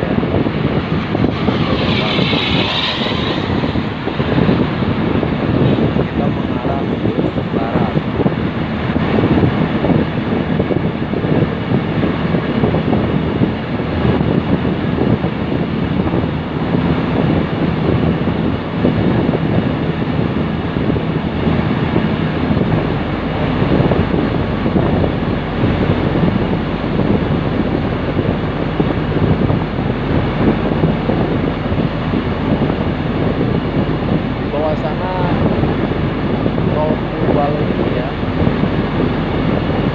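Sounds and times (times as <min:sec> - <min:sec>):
low rumble: 0:00.0 - 0:39.9
rail vehicle running noise: 0:00.0 - 0:39.9
wind buffeting microphone: 0:00.0 - 0:39.9.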